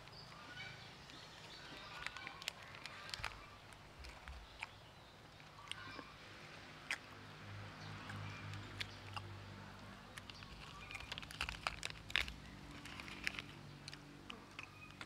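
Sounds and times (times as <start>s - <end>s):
monkey chewing cracker: 0.0s - 15.0s.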